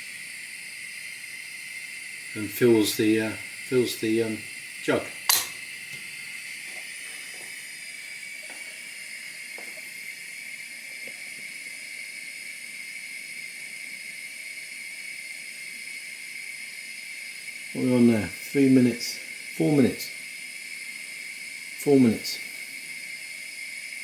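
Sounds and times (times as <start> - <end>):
moka pot hissing: 0.0 - 24.0.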